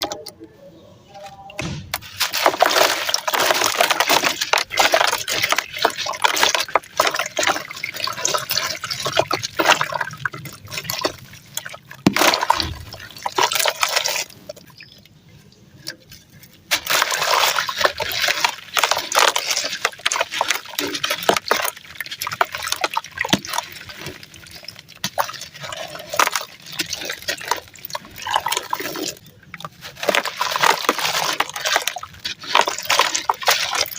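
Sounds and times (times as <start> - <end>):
gritty material crunching: 1.2 - 33.9.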